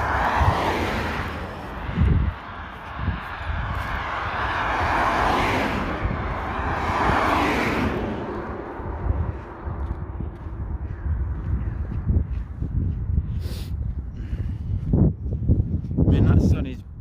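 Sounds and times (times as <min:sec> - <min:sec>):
vehicles passing whoosh: 0:00.0 - 0:16.5
wind on microphone: 0:00.0 - 0:17.0.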